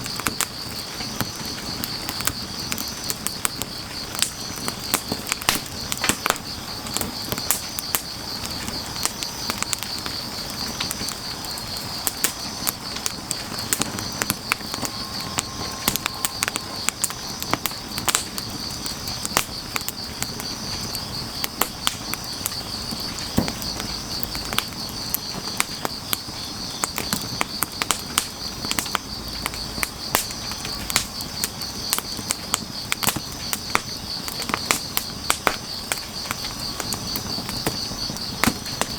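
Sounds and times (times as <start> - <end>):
insects chirring: 0.0 - 38.9
wood fire crackling and popping: 0.0 - 38.9.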